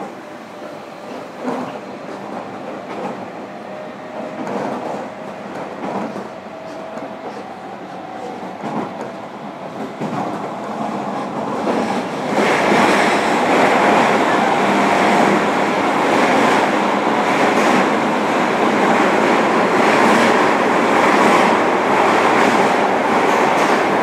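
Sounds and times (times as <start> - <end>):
train interior running noise: 0.0 - 24.0.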